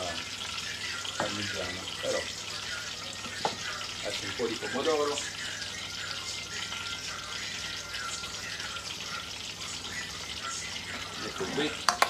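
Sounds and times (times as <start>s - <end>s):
frying in hot oil sizzling: 0.0s - 12.0s.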